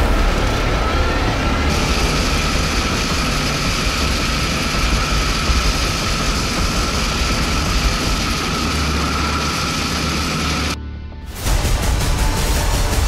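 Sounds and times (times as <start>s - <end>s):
drivetrain whine: 0.0s - 10.8s
vehicle engine rumble: 0.0s - 10.8s.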